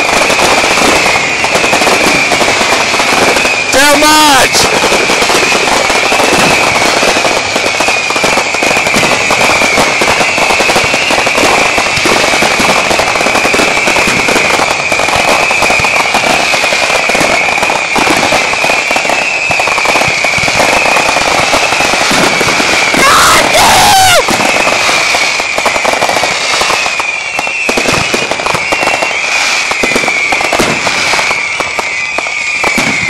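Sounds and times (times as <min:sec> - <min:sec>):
fireworks crackling bangs: 0:00.0 - 0:33.0
steady high whistle: 0:00.0 - 0:33.0.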